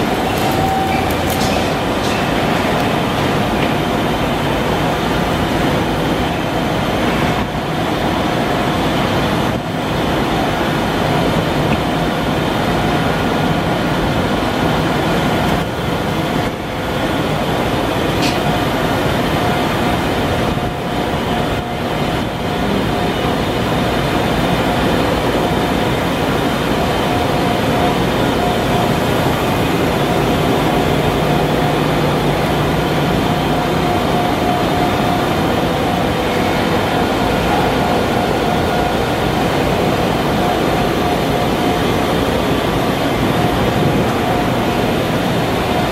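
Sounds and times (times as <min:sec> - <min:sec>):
machine whine: 0:00.0 - 0:45.9.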